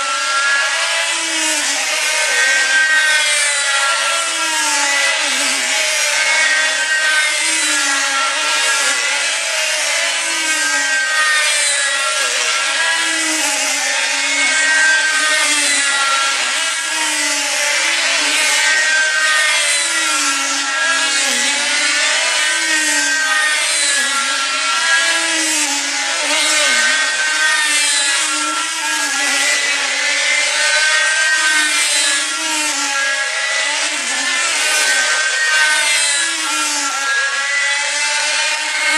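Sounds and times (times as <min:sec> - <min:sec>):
model aircraft engines: 0:00.0 - 0:38.9.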